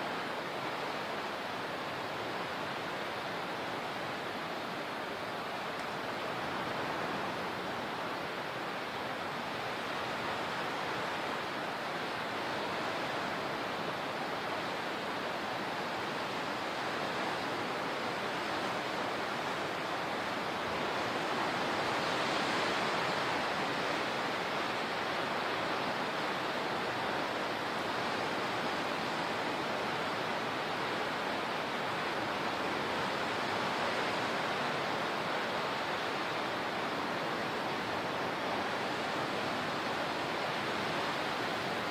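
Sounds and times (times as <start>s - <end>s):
rushing water: 0.0s - 41.9s.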